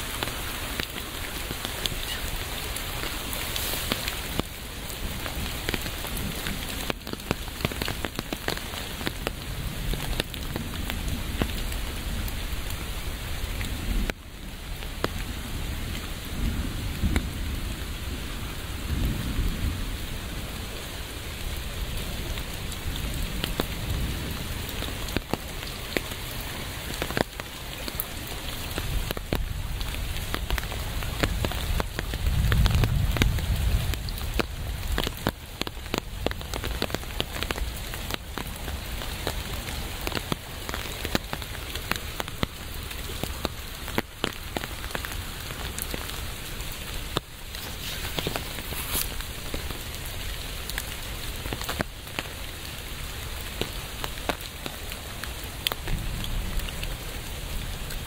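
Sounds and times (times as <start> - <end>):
raindrops clicking: 0.0 - 12.8, 21.4 - 58.0
steady rain: 0.0 - 58.0.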